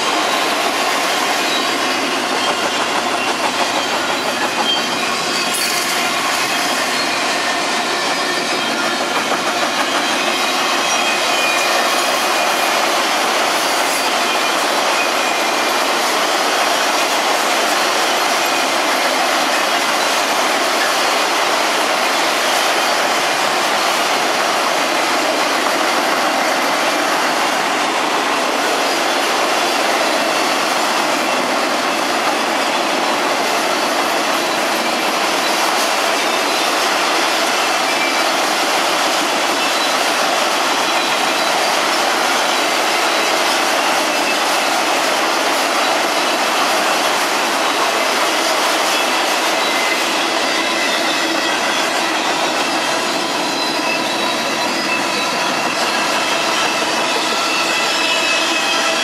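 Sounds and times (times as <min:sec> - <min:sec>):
freight cars rumbling on rails: 0:00.0 - 0:59.0.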